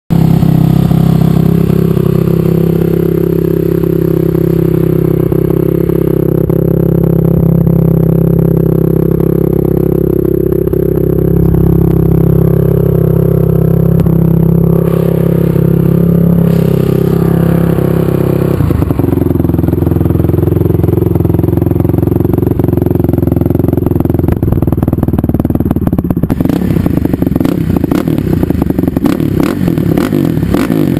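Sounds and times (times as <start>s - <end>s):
single-cylinder engine running: 0.1s - 30.9s.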